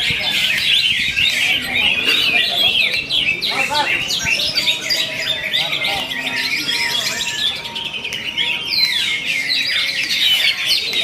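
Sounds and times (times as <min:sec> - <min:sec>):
bird singing chirps and whistles: 0:00.0 - 0:11.0.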